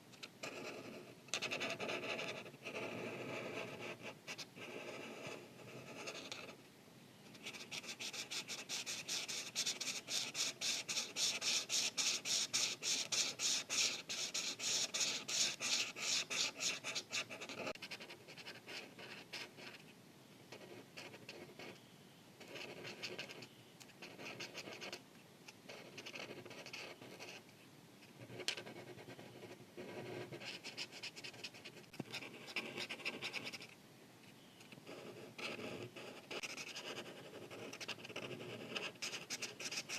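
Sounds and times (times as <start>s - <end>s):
marker scratching on paper: 0.4s - 6.6s, 7.3s - 19.8s, 20.5s - 21.8s, 22.4s - 25.0s, 25.7s - 27.4s, 28.3s - 33.7s, 34.9s - 39.9s.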